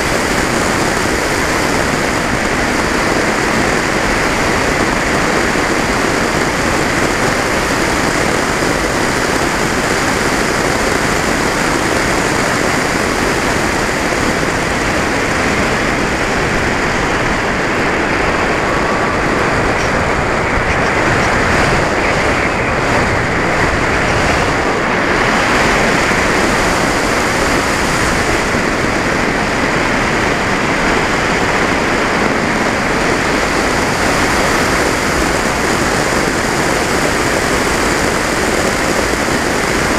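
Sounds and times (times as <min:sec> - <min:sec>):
model aircraft motor drone: 0:00.0 - 0:39.9
wind rushing over microphone: 0:00.0 - 0:39.9.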